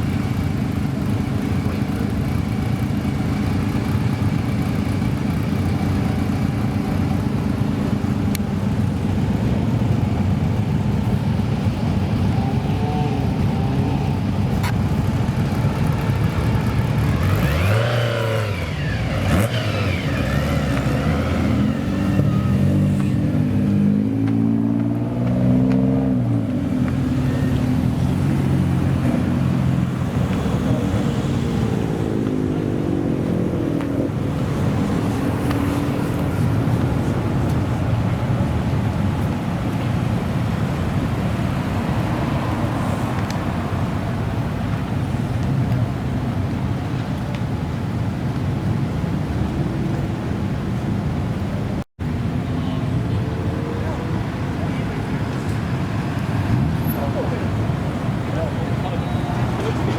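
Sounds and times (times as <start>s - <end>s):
car engine rumbling and revving: 0.0s - 46.8s, 52.1s - 59.9s.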